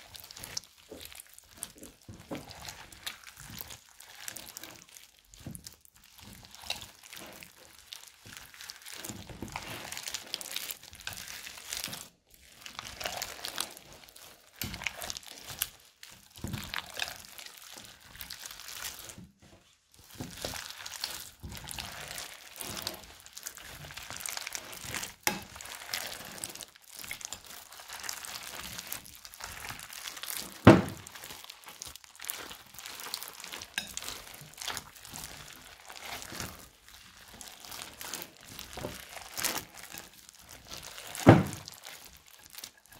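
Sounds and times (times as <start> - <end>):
crunchy slime crackling and popping: 0.0 - 19.2, 19.8 - 42.9.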